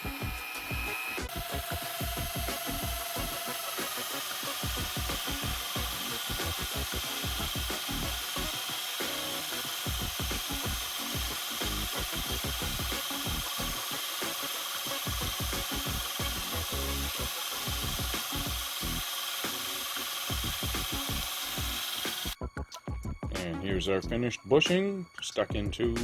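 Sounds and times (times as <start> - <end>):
lathe motor whine: 0.0 - 22.4
lathe tool scraping chatter: 0.0 - 22.4.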